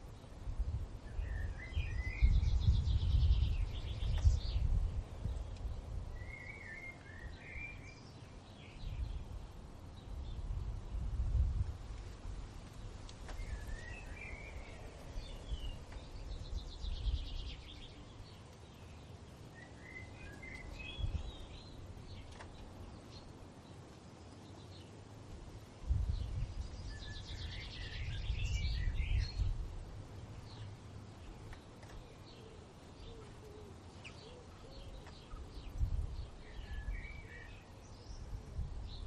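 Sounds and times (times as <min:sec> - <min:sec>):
low wind rumble: 0:00.0 - 0:39.0
songbirds twittering: 0:00.0 - 0:39.0.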